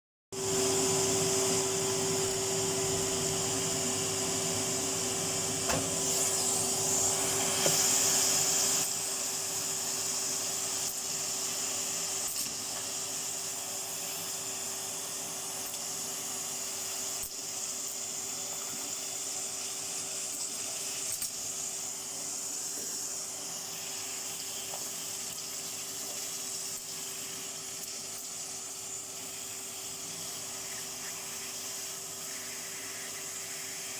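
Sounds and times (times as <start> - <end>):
vacuum cleaner running: 0.3 - 33.9.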